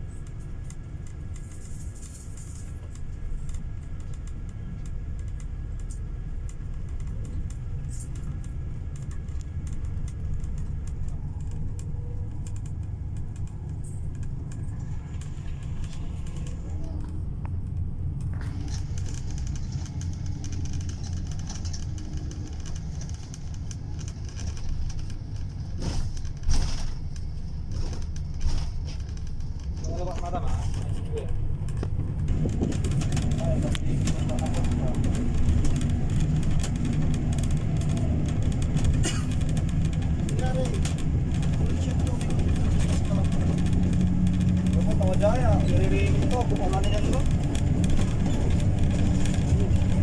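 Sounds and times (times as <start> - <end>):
bus engine rumble: 0.0 - 50.0
light rattling: 0.0 - 50.0.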